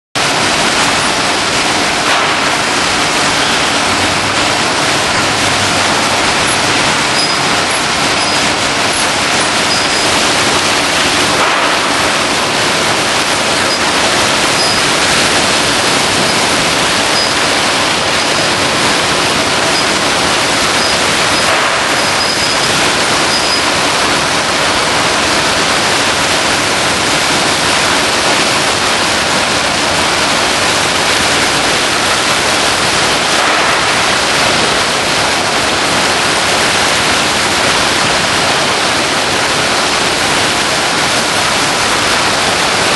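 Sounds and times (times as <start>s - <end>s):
conveyor machinery rushing hiss: 0.2s - 42.9s.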